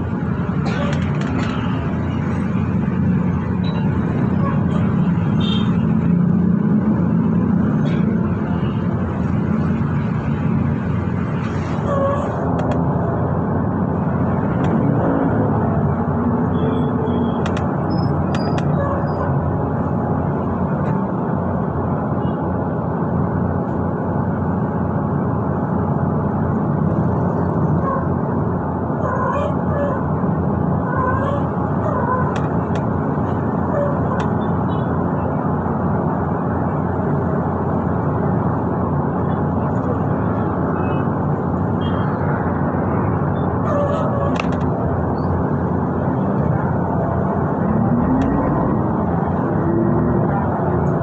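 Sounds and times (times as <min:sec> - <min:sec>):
bus engine and road noise: 0:00.0 - 0:51.0.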